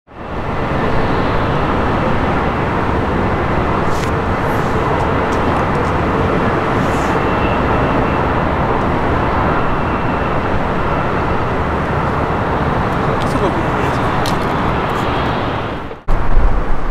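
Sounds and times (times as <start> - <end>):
faint high whine: 0.1 - 16.9
jet engines roaring: 0.1 - 16.9.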